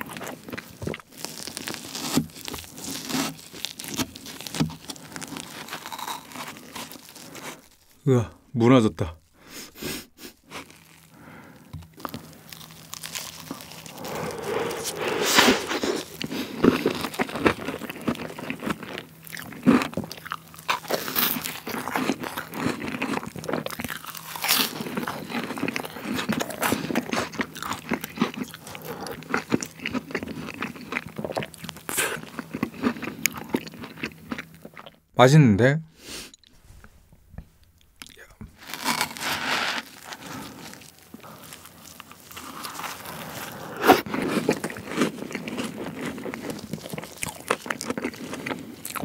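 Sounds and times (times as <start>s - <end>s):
crunching and chewing meringue: 0.0s - 8.0s, 9.7s - 35.1s, 37.4s - 49.0s.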